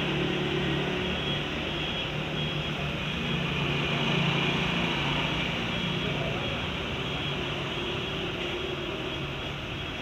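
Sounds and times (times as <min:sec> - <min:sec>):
street traffic hum: 0:00.0 - 0:10.0.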